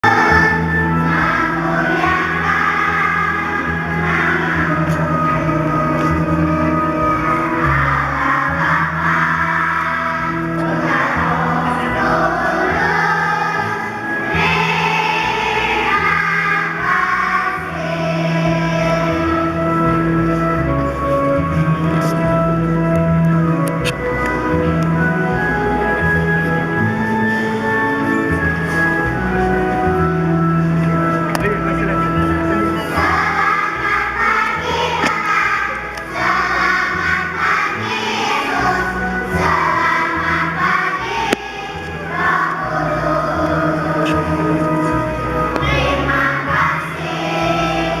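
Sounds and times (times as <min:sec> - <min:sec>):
children's choir singing: 0:00.0 - 0:31.2, 0:32.6 - 0:48.0
instrumental accompaniment: 0:00.0 - 0:48.0.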